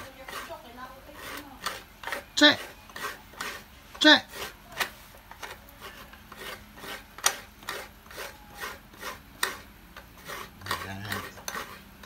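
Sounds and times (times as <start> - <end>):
coconut scraping on grater blade: 0.0 - 12.0.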